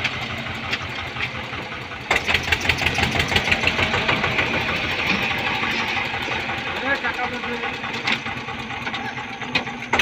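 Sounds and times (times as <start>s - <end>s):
tractor diesel engine knocking: 0.0s - 10.0s.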